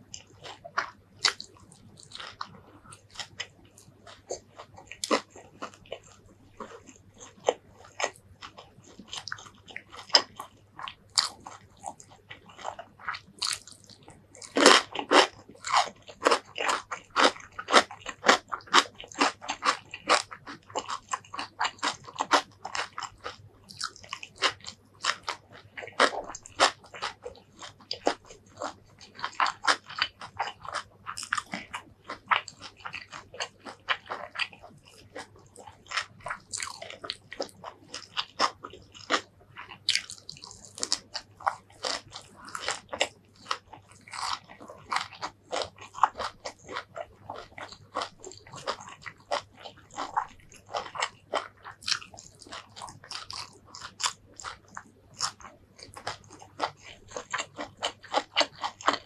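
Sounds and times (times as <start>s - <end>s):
wet chewing: 0.0s - 59.0s
crunchy bites of food: 0.1s - 59.0s.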